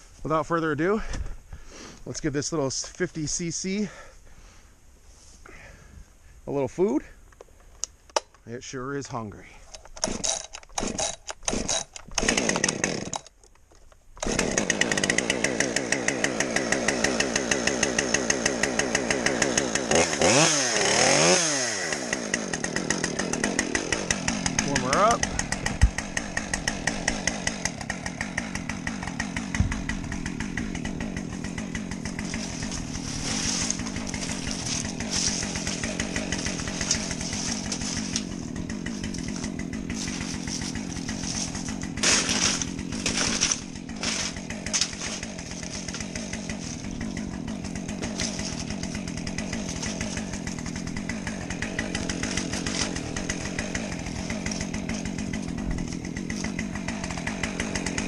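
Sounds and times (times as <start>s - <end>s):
chainsaw idling: 0.5s - 4.7s, 9.6s - 13.4s, 14.2s - 58.0s.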